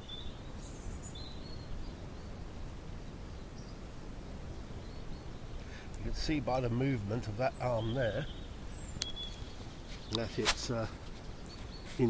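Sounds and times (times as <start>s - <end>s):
bird chirps: 0.0s - 2.4s, 3.0s - 12.0s.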